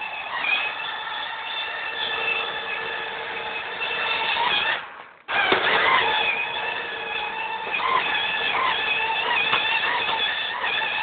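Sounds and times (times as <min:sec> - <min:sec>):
robot vacuum cleaner whirring: 0:00.0 - 0:11.0.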